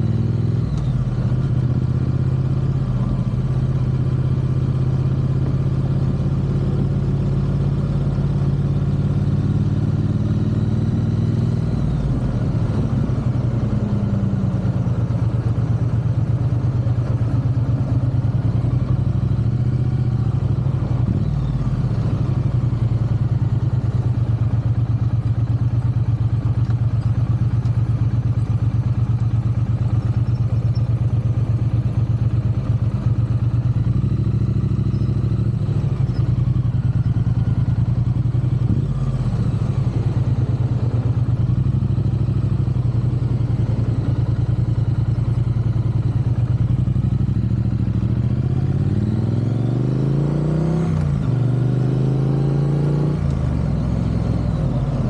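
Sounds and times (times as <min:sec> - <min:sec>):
motorcycle engine burbling: 0:00.0 - 0:55.0.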